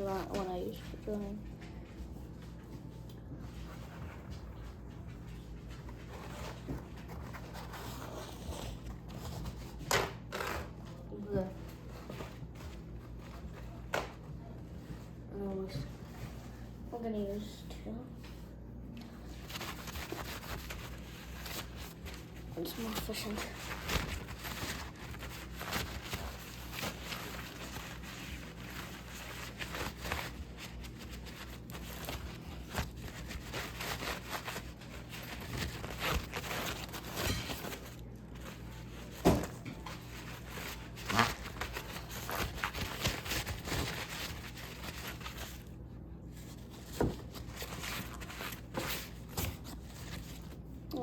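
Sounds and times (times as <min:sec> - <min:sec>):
rubbing and rustling on plastic: 0:00.0 - 0:51.0.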